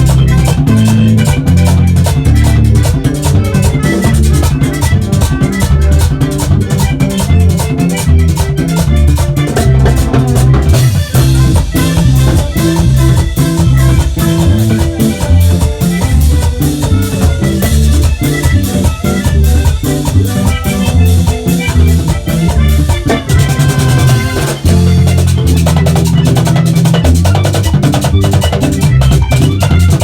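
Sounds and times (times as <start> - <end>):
bass line: 0.0 - 30.0
button accordion melody: 0.0 - 30.0
percussion with steady beat: 0.0 - 30.0.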